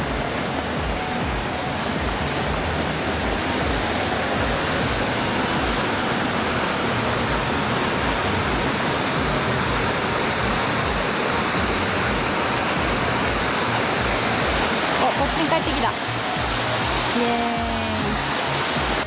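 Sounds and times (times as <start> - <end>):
water rushing: 0.0 - 19.0.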